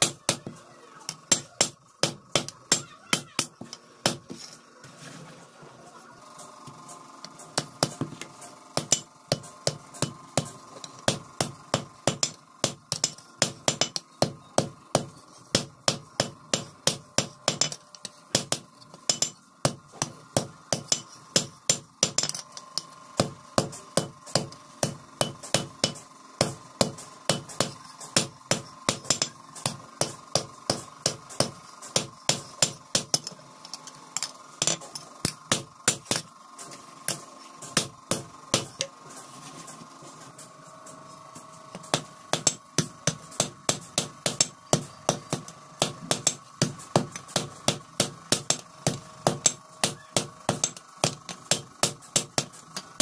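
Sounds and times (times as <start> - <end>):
hammer striking metal: 0.0 - 4.3, 8.8 - 33.4, 34.2 - 36.3, 40.9 - 53.0.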